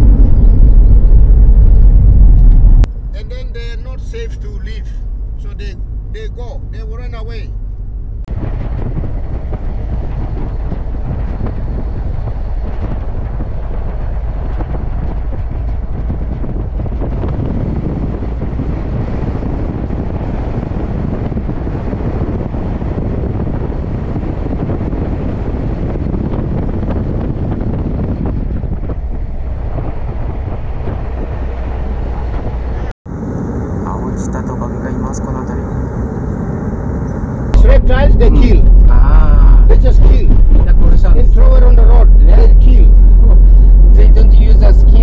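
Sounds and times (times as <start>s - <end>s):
wind buffeting microphone: 0.0s - 6.9s, 7.6s - 34.4s, 35.6s - 45.0s
vehicle road noise: 0.0s - 45.0s.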